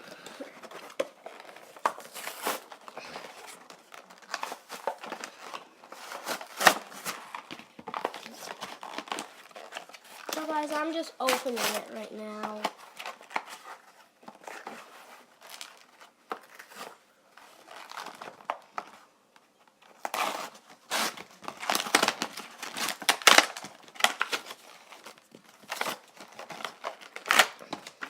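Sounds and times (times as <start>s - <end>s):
plastic packaging tearing and crinkling: 0.0s - 19.1s, 19.8s - 28.0s.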